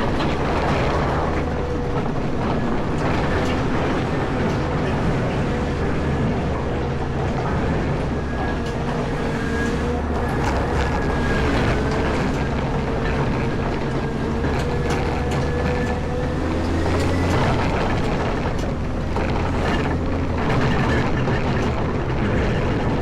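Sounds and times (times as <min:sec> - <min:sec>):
diesel engine running under load: 0:00.0 - 0:23.0
knocks and clatter: 0:00.0 - 0:23.0
steady whine: 0:00.0 - 0:23.0.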